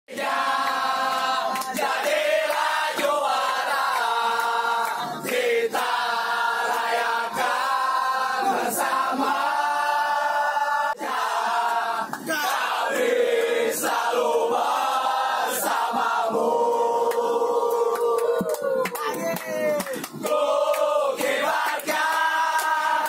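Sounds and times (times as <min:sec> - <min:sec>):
crowd chanting together: 0:00.1 - 0:18.6, 0:20.1 - 0:23.0.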